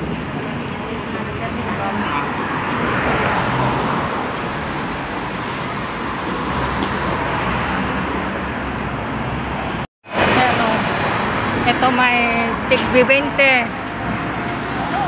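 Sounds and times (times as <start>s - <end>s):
busy road traffic: 0.0s - 15.0s.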